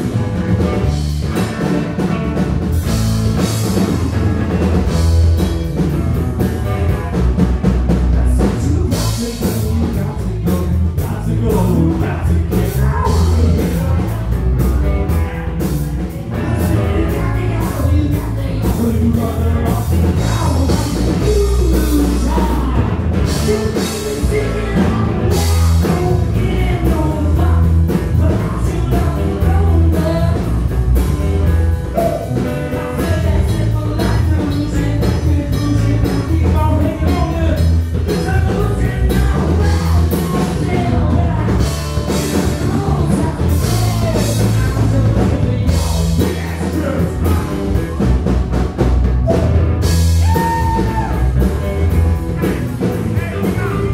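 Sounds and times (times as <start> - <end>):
bass guitar: 0.0 - 53.9
drum kit: 0.0 - 53.9
electric guitar: 0.0 - 53.9
person singing: 5.8 - 31.2, 31.8 - 48.3, 49.2 - 53.9.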